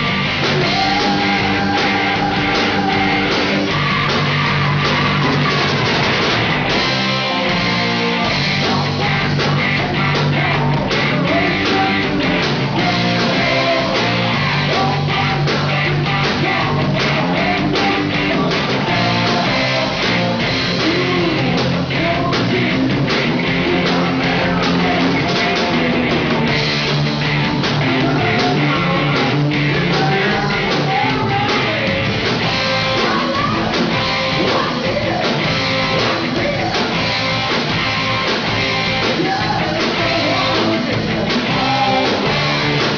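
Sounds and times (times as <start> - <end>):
bass guitar: 0.0 - 42.9
drum kit beats: 0.0 - 42.9
electric guitars: 0.0 - 42.9.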